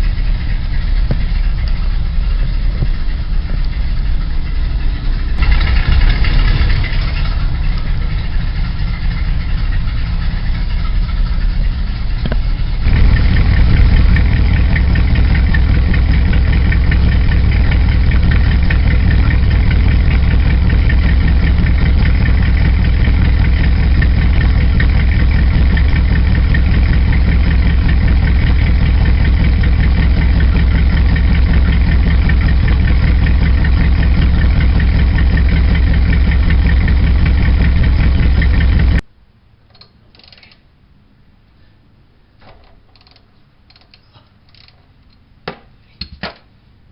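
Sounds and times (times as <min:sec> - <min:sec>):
pickup truck engine idling: 0:00.0 - 0:39.0.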